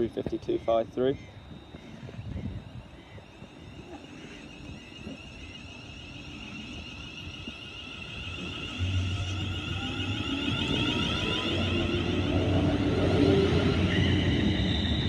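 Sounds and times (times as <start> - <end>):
electric train motor whine: 0.0 - 15.0.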